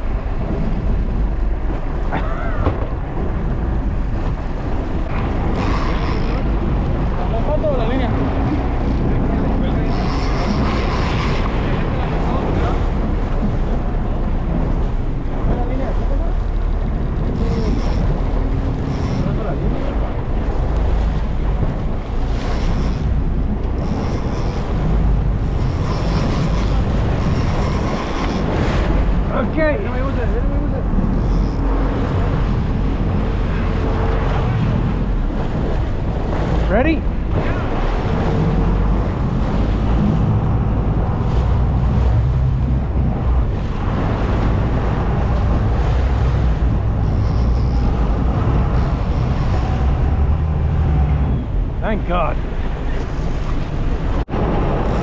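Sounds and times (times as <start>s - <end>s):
sea rushing: 0.0s - 55.0s
waves washing along boat hull: 0.0s - 55.0s
wind buffeting microphone: 0.0s - 55.0s.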